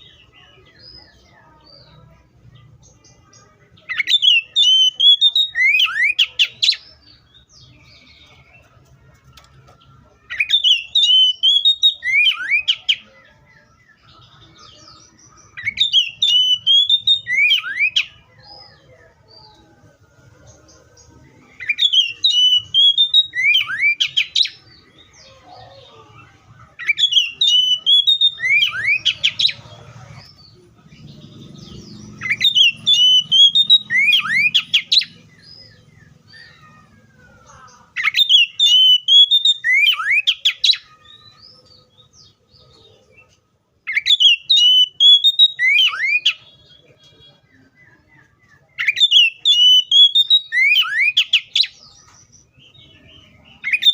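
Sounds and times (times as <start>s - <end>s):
bird singing warbling phrases: 0.0s - 53.9s.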